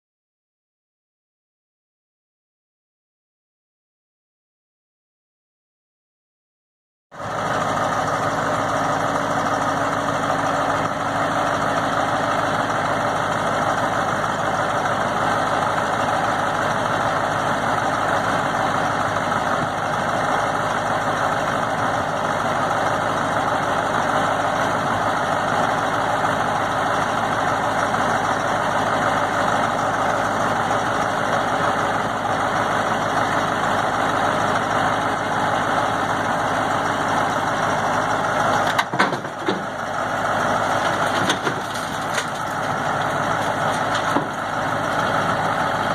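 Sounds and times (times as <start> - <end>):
diesel engine idling: 7.2 - 45.9.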